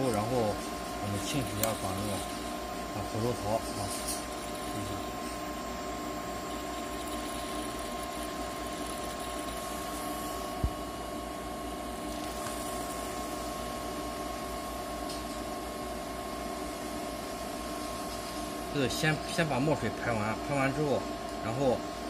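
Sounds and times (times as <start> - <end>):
printer mechanical hum with tones: 0.0 - 22.0.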